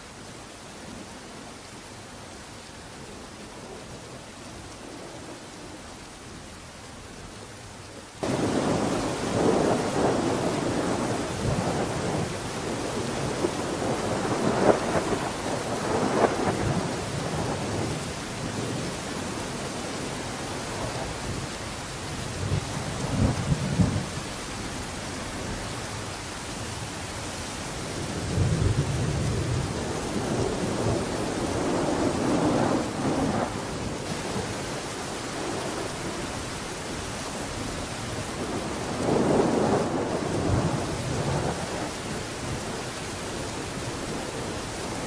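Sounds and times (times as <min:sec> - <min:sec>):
rain-like rushing noise: 0:00.0 - 0:45.0.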